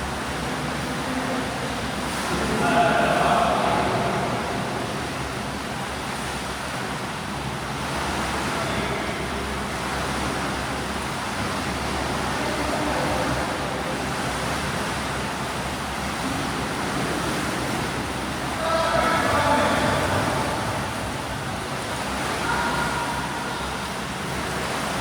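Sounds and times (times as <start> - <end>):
swimmers splashing water: 0.0 - 25.0.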